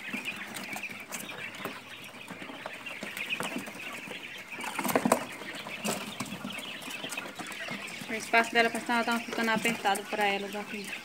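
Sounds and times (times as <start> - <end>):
quail chirping and peeping: 0.0 - 11.0.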